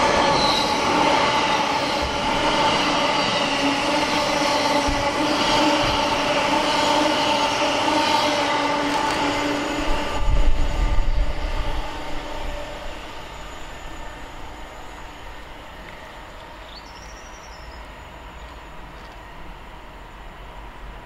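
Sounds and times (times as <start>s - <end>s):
electric train hum: 0.0s - 21.0s
wheel-on-rail noise: 0.0s - 21.0s.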